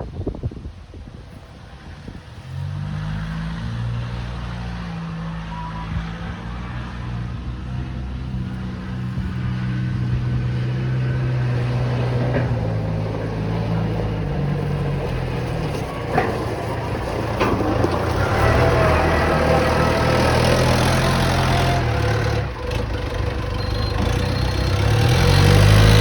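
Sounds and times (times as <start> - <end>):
wheel loader engine running: 3.3 - 26.0.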